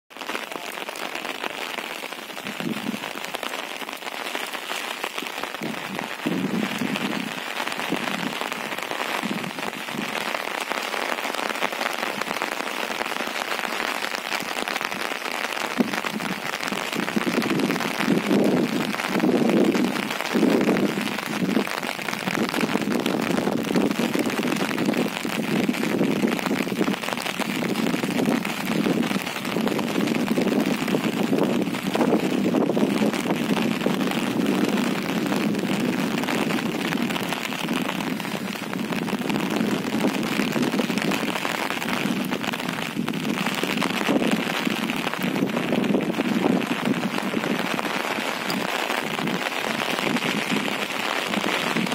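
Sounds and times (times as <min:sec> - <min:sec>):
steady rain falling: 0:00.1 - 0:51.9.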